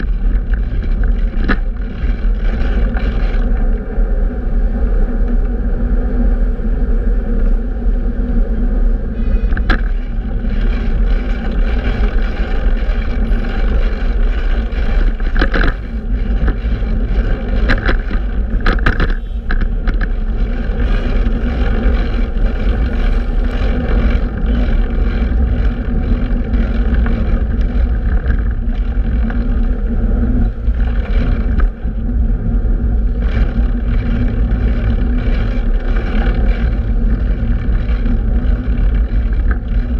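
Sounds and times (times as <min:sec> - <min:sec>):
bicycle knocking over bumps: 0:00.0 - 0:03.8, 0:09.2 - 0:39.9
road noise: 0:00.0 - 0:39.9
wind rumble on microphone: 0:00.0 - 0:39.9.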